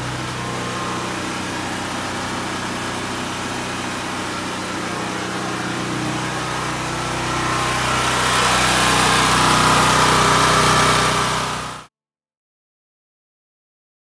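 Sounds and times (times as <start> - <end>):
generator engine running: 0.0 - 11.9.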